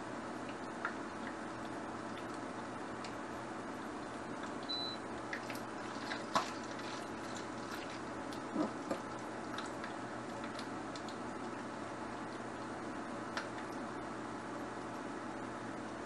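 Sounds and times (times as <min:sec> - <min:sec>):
pot of water boiling: 0:00.0 - 0:16.0.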